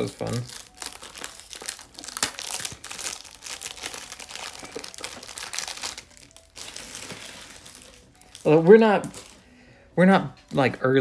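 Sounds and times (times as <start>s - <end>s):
crinkly rustling: 0.0s - 9.5s.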